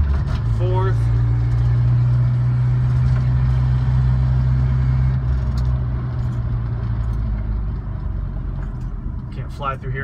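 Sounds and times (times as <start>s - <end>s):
car engine drone from inside cab: 0.0s - 10.0s.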